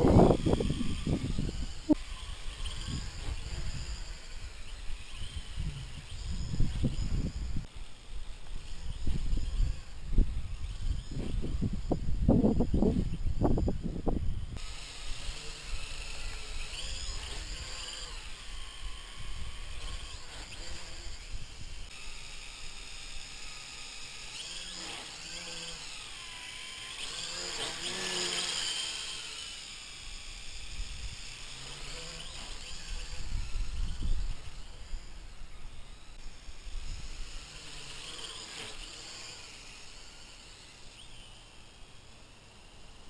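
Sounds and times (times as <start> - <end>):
quadcopter motors whining: 0.0 - 43.0.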